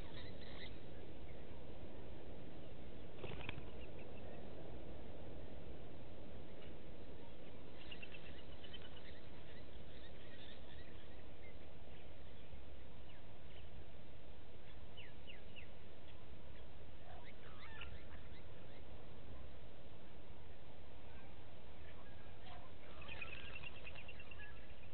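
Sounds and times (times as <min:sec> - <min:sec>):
birds chirping: 0:00.0 - 0:24.9
low background noise: 0:00.0 - 0:24.9.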